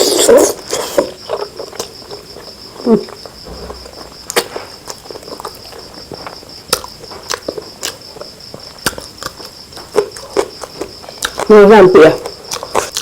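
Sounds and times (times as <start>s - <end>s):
chewing with mouth clicks: 0.0s - 3.3s, 4.1s - 13.0s.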